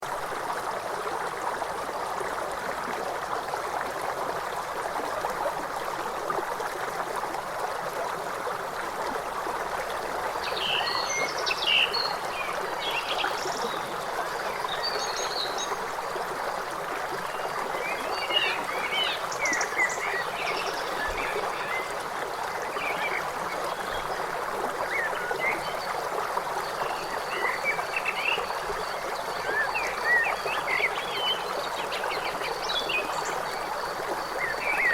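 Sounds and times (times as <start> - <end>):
river water running: 0.0 - 34.9.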